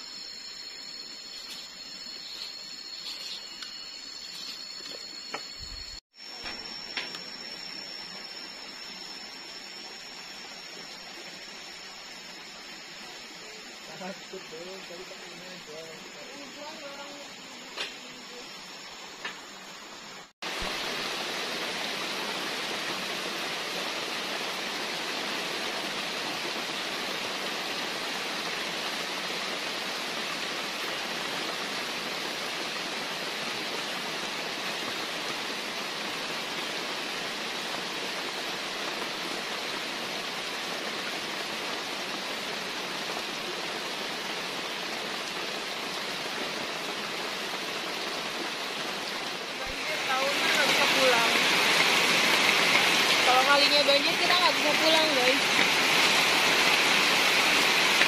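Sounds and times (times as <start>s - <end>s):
water rushing: 6.2s - 58.0s.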